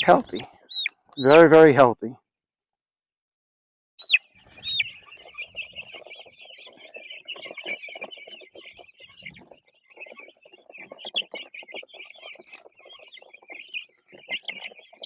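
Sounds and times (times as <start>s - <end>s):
chicks peeping: 0.0s - 1.8s, 4.0s - 15.0s.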